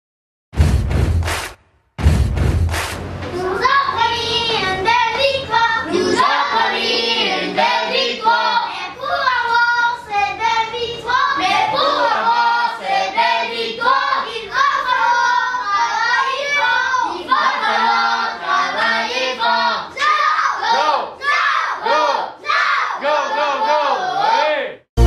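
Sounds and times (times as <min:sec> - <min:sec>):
children singing together: 0:03.4 - 0:24.4.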